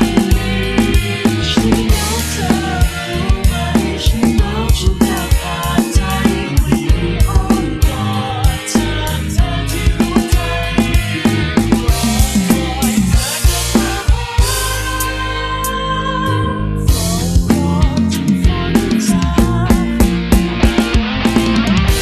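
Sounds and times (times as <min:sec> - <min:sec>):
drum kit beat: 0:00.0 - 0:15.3, 0:16.9 - 0:22.0
sustained bass notes: 0:00.0 - 0:22.0.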